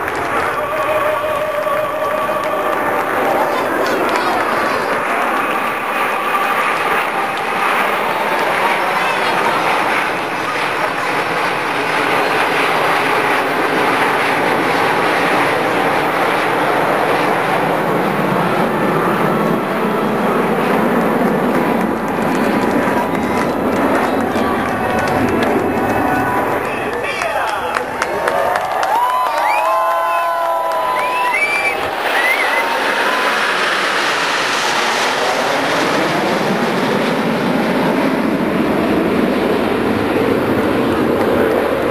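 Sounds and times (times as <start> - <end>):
jet aircraft flying past: 0.0 - 41.9.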